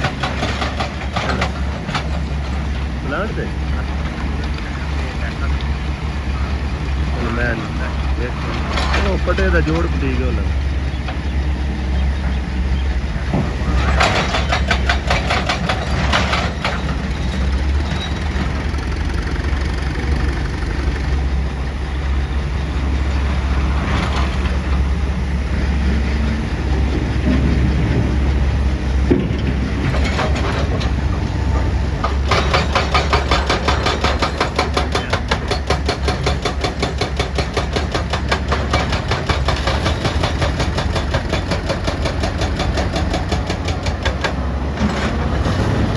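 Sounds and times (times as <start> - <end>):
hydraulic rock breaker hammering: 0.0 - 21.3, 23.0 - 45.9
diesel engine running: 0.0 - 45.9.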